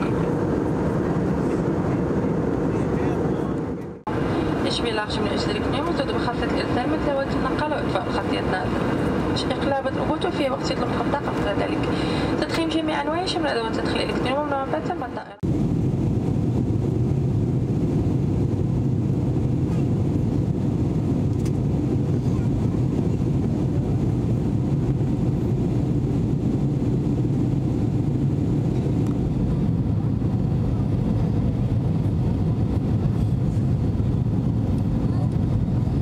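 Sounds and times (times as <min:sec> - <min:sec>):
airplane cabin engine rumble: 0:00.0 - 0:36.0.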